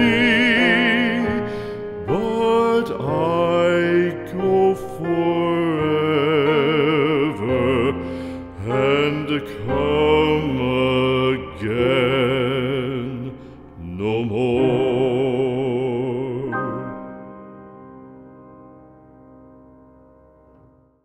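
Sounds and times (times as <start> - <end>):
slow melody with vibrato: 0.0 - 20.9.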